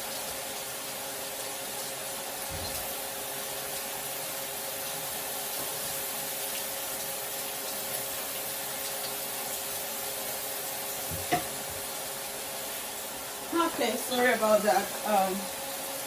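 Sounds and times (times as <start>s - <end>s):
chicken sizzling on grill pan: 0.0s - 16.0s.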